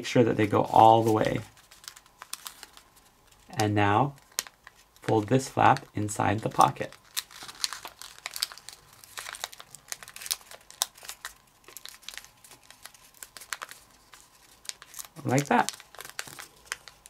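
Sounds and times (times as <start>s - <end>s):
paper rustling and crinkling: 0.3s - 17.0s.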